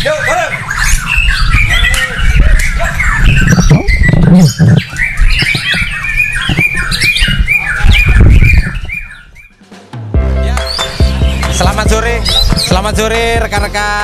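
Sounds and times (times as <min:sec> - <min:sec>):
bird singing chirps and whistles: 0:00.0 - 0:09.6, 0:10.6 - 0:14.0.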